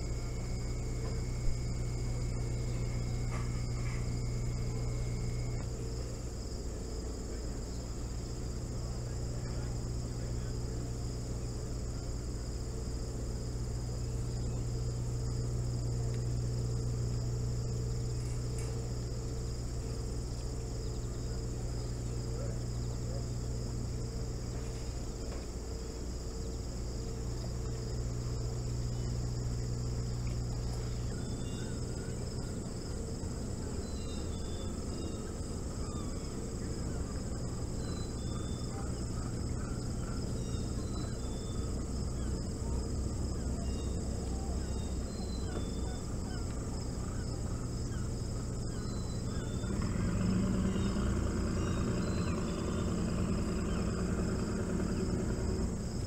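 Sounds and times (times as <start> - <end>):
crickets trilling: 0.0 - 56.0
low steady hum: 0.0 - 56.0.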